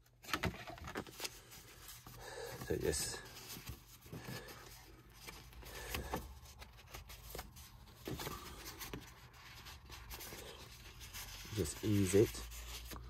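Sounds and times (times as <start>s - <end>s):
card rustling: 0.0s - 13.0s.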